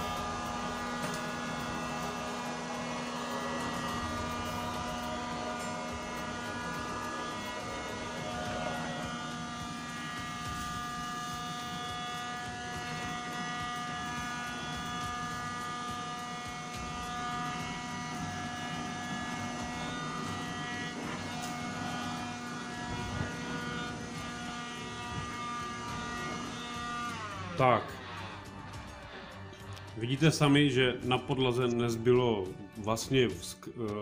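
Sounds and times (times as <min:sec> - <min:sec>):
handheld vacuum cleaner whining: 0:00.0 - 0:33.2.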